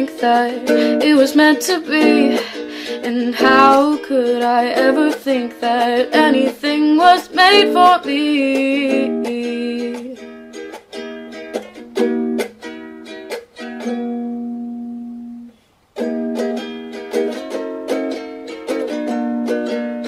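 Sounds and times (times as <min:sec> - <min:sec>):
ukulele strumming chords: 0:00.0 - 0:20.0.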